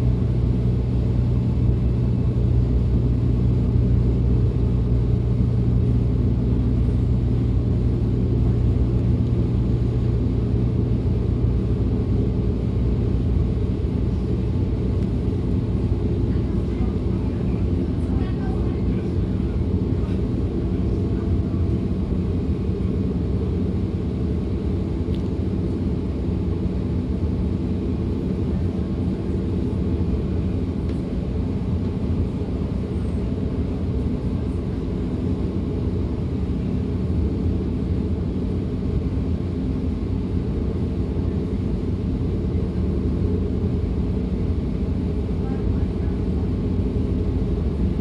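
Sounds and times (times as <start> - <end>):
train running rumble and hum: 0.0 - 48.0.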